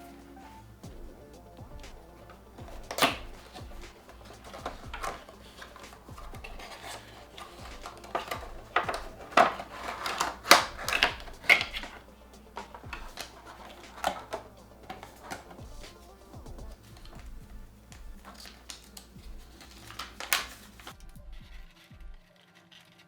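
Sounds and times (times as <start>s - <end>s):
packaging rustling and crinkling: 0.0s - 21.0s
sharp clicks and taps: 0.8s - 21.0s.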